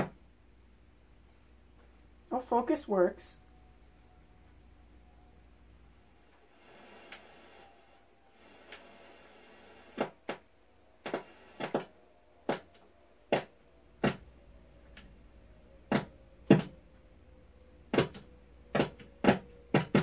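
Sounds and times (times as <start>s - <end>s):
faint steady tone: 0.0s - 19.7s.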